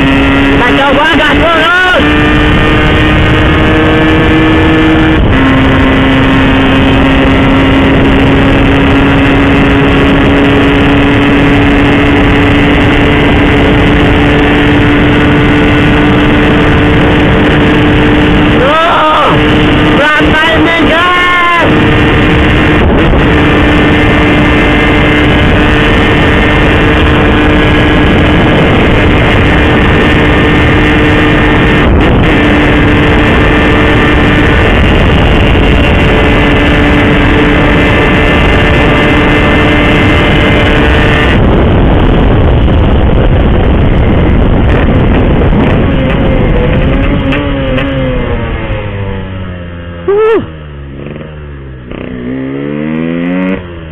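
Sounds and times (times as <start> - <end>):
two-stroke engine revving high: 0.0 - 53.9.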